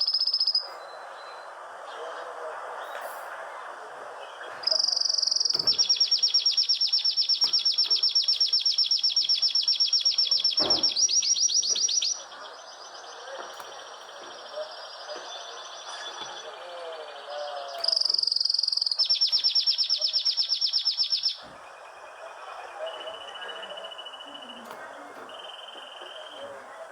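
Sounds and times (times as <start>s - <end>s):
songbird trilling: 0.0s - 1.4s, 4.2s - 26.9s.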